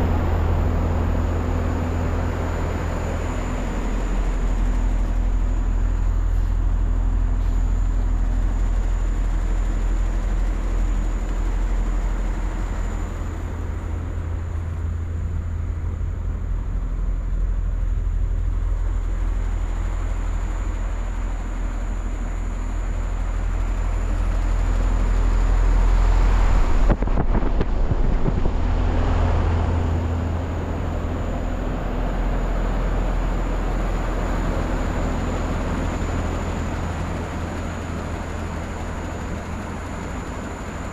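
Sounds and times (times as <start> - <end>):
heat pump drone with whine: 0.0 - 40.9.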